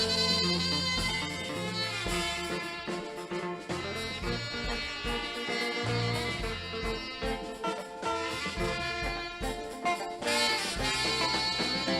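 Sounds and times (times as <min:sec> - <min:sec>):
instrumental music with brass: 0:00.0 - 0:11.9
steady low beat: 0:00.0 - 0:11.9.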